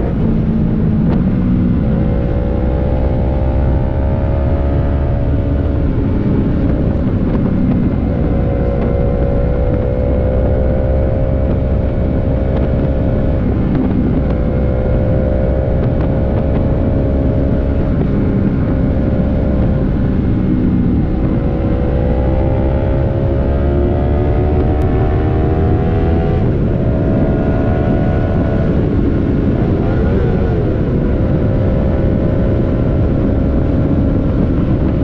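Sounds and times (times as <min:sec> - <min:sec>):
motorcycle engine running: 0:00.0 - 0:35.0
wind rush on microphone: 0:00.0 - 0:35.0.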